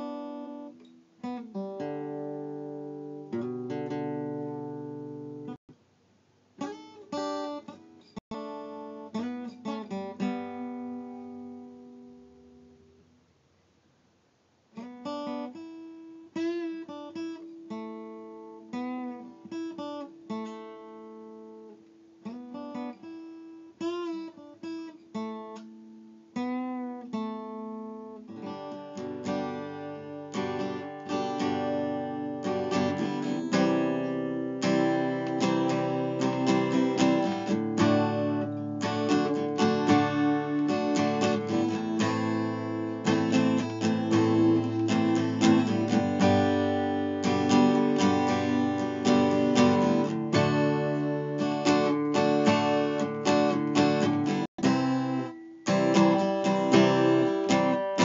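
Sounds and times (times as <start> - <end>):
acoustic guitar strummed and picked: 0.0 - 5.6, 6.6 - 13.1, 14.7 - 58.0.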